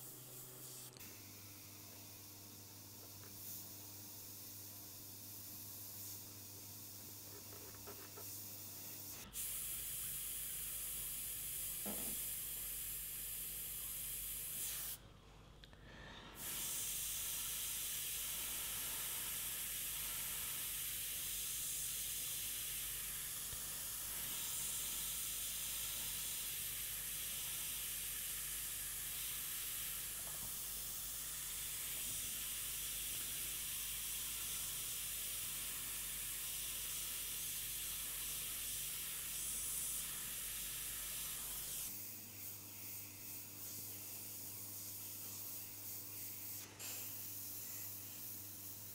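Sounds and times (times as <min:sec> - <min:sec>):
airbrush air hissing: 0:00.0 - 0:02.6, 0:03.2 - 0:15.0, 0:15.8 - 0:48.9.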